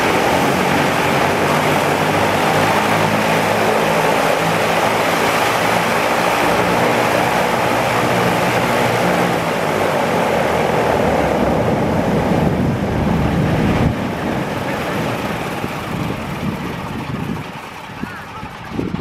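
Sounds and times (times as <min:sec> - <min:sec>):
propellers winding down: 0:00.0 - 0:19.0
radial piston engines running: 0:00.0 - 0:19.0.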